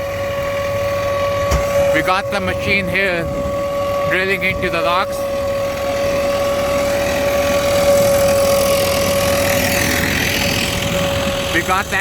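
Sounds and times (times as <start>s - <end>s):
rock drill rig drilling: 1.2s - 12.0s.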